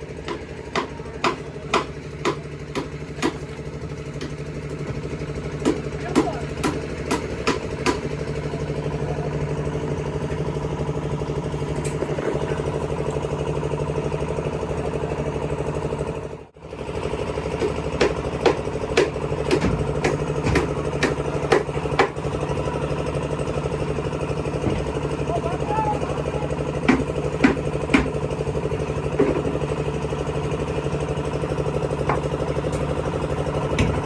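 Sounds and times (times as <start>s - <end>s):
concrete mixer engine running: 0.0s - 34.0s.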